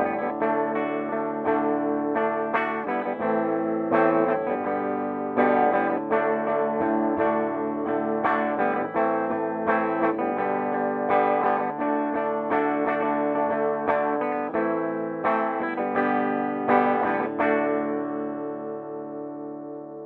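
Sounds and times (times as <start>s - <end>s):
electric guitar notes and chords: 0.0s - 20.0s.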